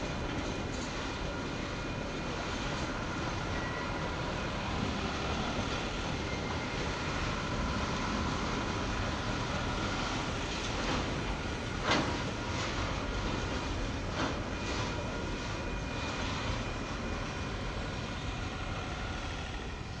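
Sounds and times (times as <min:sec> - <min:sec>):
train wheels rumbling and rattling: 0:00.0 - 0:20.0.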